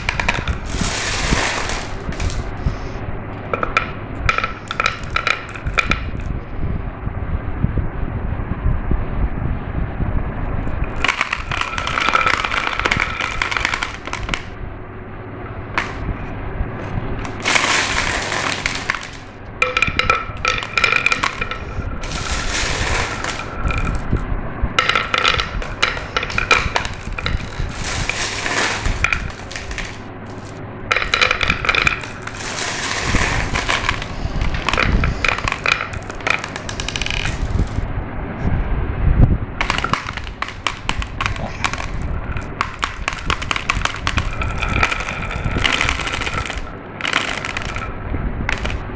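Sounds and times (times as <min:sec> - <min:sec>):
marbles clattering down marble run: 0:00.0 - 0:02.9, 0:03.5 - 0:06.4, 0:10.7 - 0:14.6, 0:15.8 - 0:16.1, 0:17.2 - 0:24.2, 0:24.8 - 0:37.9, 0:39.6 - 0:48.9.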